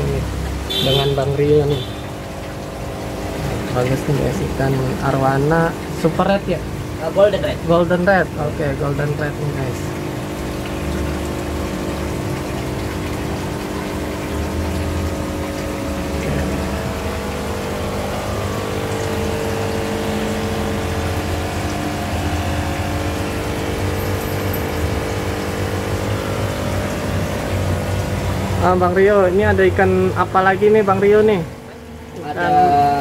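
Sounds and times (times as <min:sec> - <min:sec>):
aquarium pump hum: 0:00.0 - 0:33.0
bubbling water: 0:00.0 - 0:33.0.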